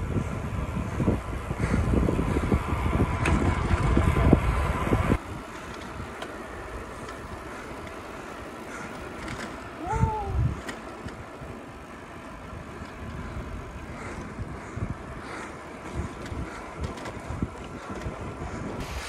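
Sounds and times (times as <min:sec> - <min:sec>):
wind on microphone: 0:00.0 - 0:07.4, 0:09.3 - 0:11.6, 0:12.4 - 0:19.0.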